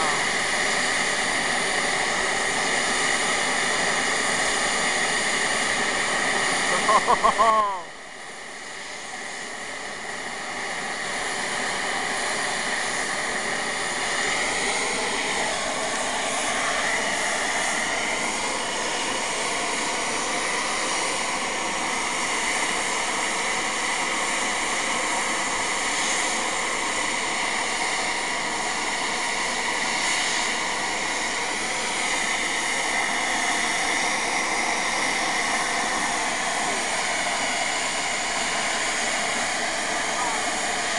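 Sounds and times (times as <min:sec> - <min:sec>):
steam locomotive blowing off steam: 0:00.0 - 0:07.8, 0:08.4 - 0:40.9.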